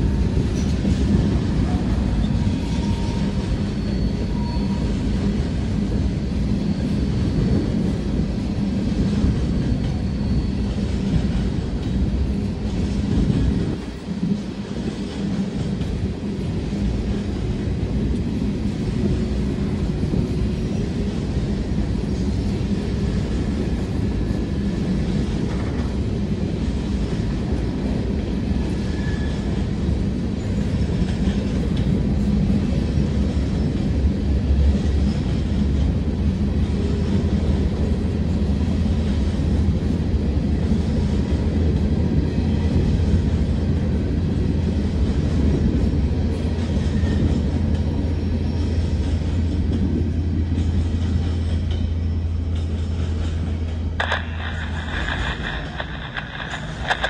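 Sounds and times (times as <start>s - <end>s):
train cars clattering: 0.0s - 57.0s
train wheels rumbling on rail: 0.0s - 57.0s.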